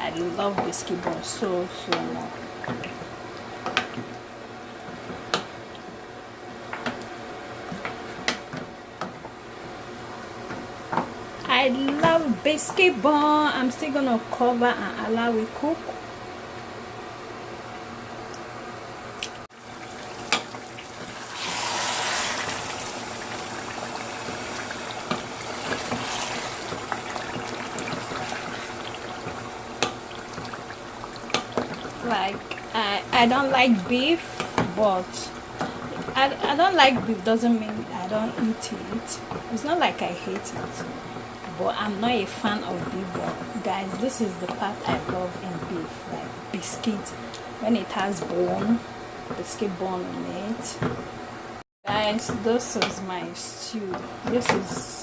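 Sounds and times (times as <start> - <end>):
stew bubbling and sizzling: 0.0 - 18.5, 19.2 - 55.0.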